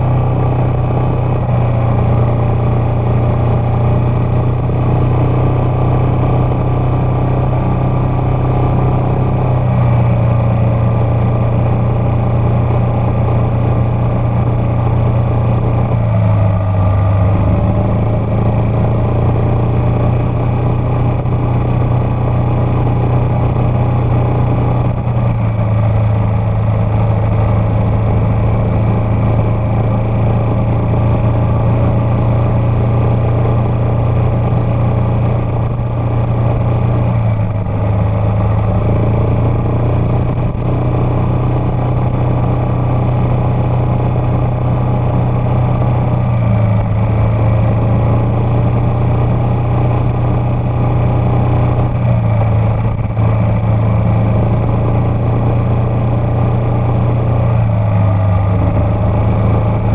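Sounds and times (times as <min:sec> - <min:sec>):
scooter engine running: 0:00.0 - 0:59.9.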